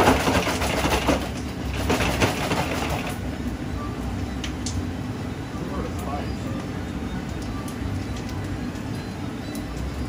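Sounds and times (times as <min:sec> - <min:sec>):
gas burner rumbling: 0:00.0 - 0:10.0.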